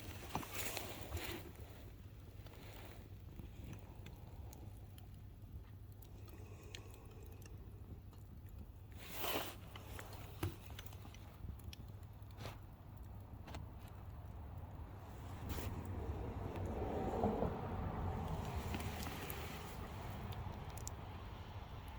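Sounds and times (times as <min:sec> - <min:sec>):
campfire crackling and popping: 0:00.0 - 0:21.9
low fire rumble: 0:00.0 - 0:21.9.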